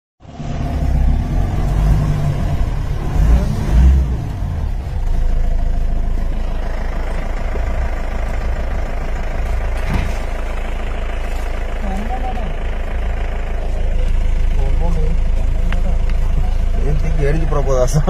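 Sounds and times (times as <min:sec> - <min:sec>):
vehicle engine running slowly: 0:00.2 - 0:18.0.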